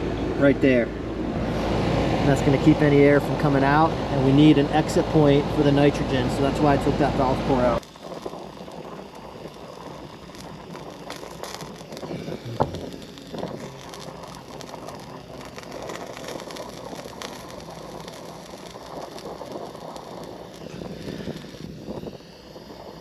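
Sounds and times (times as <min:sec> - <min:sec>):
torch flame hissing: 0:00.3 - 0:23.0.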